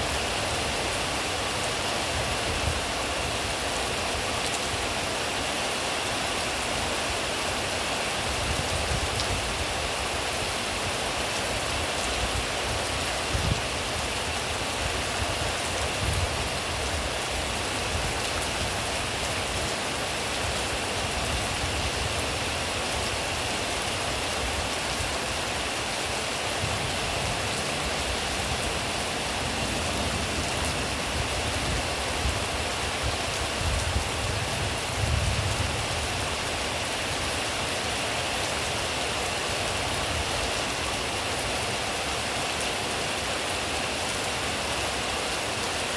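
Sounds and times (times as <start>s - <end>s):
rain pattering on surfaces: 0.0s - 45.9s.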